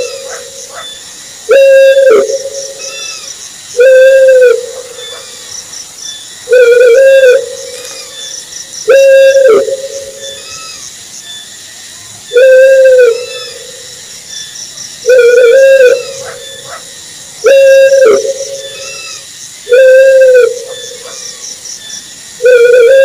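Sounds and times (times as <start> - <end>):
owl hooting: 0.0 - 5.5, 6.4 - 10.8, 12.3 - 13.9, 15.0 - 21.6, 22.4 - 23.0.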